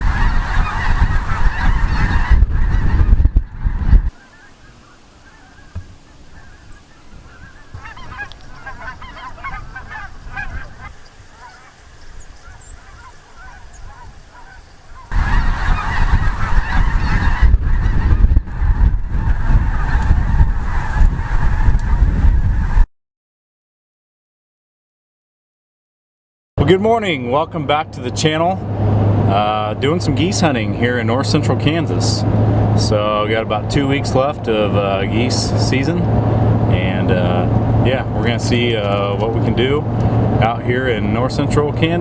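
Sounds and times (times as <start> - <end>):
wind rumble on microphone: 0.0 - 4.2, 5.7 - 22.9, 27.9 - 42.0
geese honking: 0.0 - 22.8, 26.6 - 42.0.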